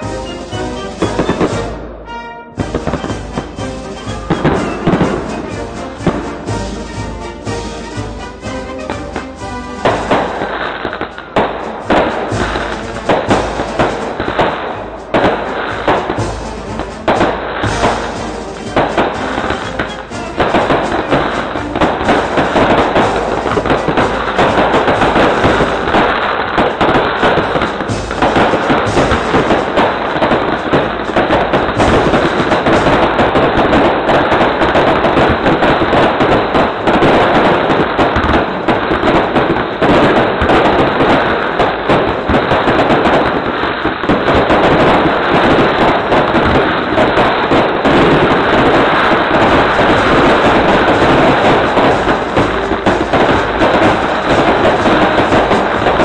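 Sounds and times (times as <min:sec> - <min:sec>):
fireworks bangs and crackles: 0:00.0 - 0:01.9, 0:02.5 - 0:56.0.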